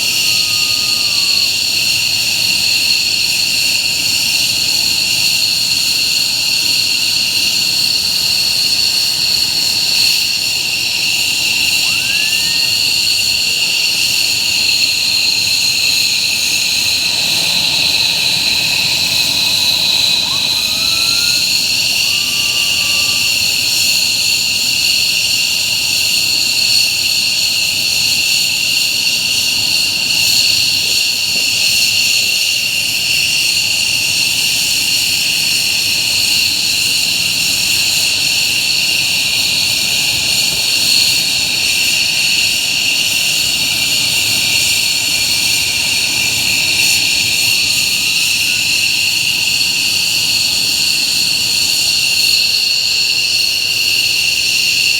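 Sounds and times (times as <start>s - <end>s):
jet engines high-pitched whine: 0.0s - 54.9s.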